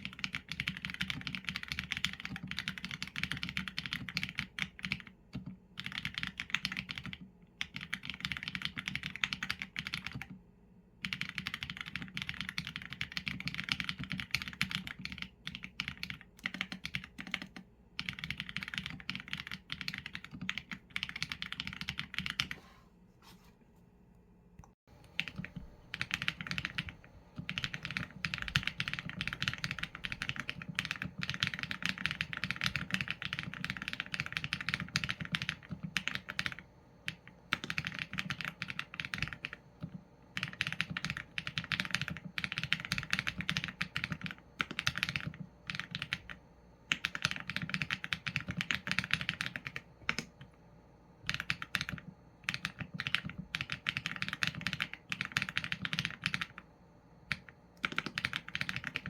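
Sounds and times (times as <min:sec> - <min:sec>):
mechanical keyboard typing: 0:00.0 - 0:10.4, 0:11.0 - 0:22.6, 0:25.0 - 0:50.6, 0:51.2 - 0:59.0.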